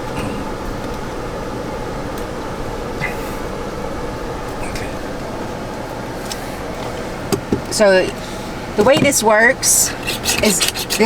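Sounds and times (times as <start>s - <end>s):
vehicle cabin hum: 0.0s - 11.0s.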